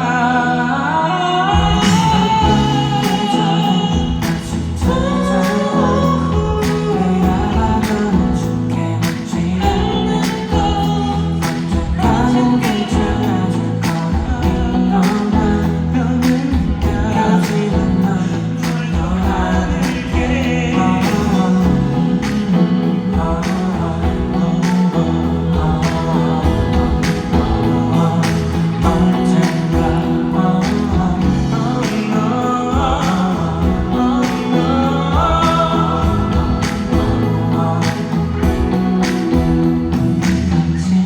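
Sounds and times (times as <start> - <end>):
band playing pop ballad: 0.0 - 41.0
person singing: 0.0 - 41.0
steady drum beat: 1.6 - 40.8.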